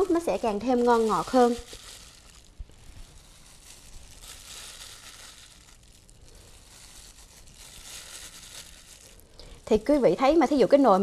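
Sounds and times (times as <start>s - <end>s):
plastic glove rustling: 0.0s - 11.0s.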